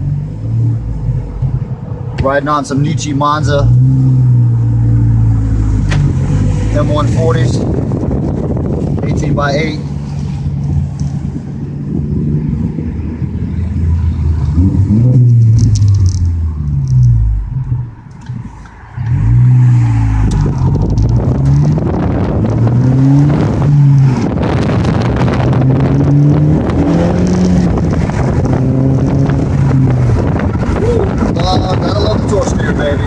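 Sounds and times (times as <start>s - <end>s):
car exhaust accelerating hard: 3.0s - 33.0s.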